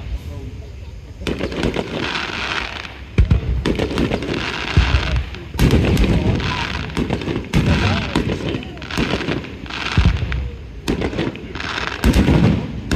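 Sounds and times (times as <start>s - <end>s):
firework crackling: 0.0s - 12.9s
firework shells bursting: 1.2s - 12.9s.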